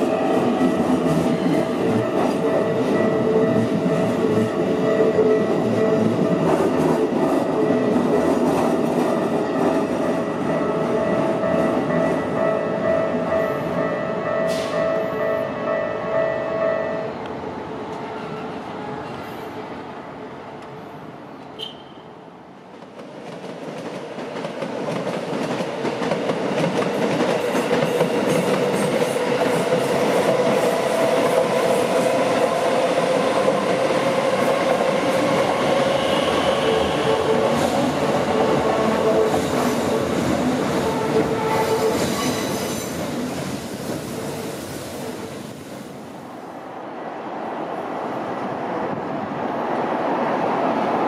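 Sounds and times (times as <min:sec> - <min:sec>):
electric train passing: 0:00.0 - 0:21.5, 0:22.2 - 0:51.0.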